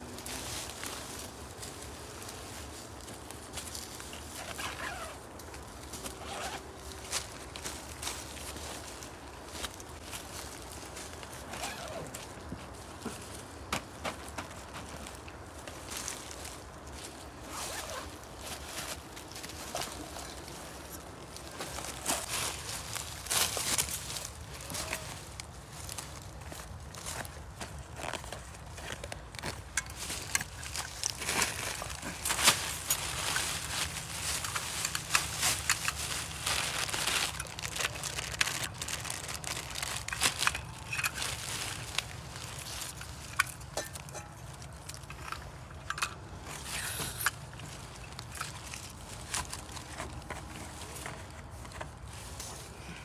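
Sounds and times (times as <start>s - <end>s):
plastic bags and leaves rustling: 0.0s - 53.0s.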